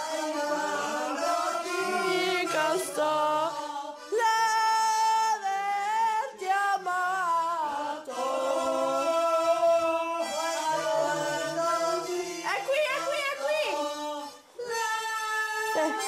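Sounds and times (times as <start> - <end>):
voices singing together: 0.0 - 16.0.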